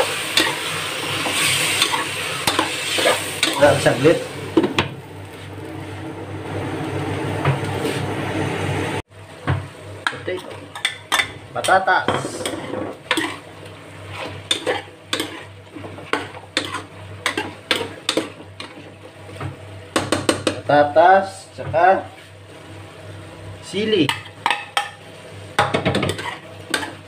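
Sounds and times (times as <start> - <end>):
chicken and potatoes sizzling in a pot: 0.0 - 5.5, 9.1 - 27.0.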